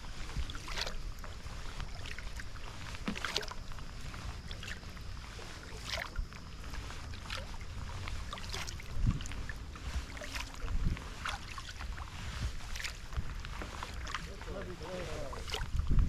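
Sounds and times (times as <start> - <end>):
paddle splashing in water: 0.0 - 16.0
wind rumble on microphone: 0.0 - 16.0.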